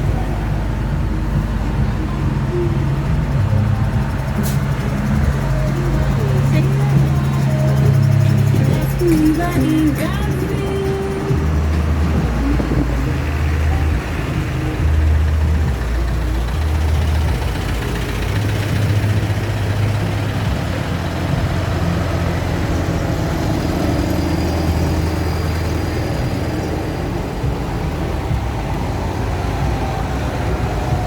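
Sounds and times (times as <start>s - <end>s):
tractor engines rumbling: 0.0s - 31.0s.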